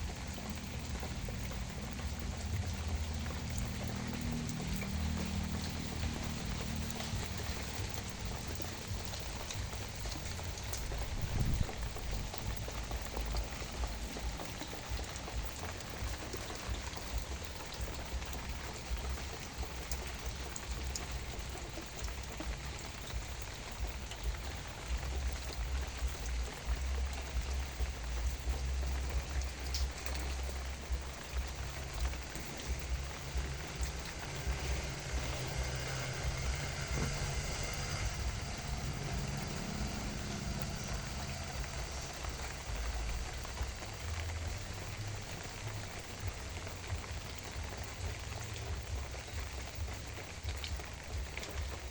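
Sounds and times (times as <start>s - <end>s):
low rumble: 0.0s - 51.9s
rain falling on plants: 0.0s - 51.9s.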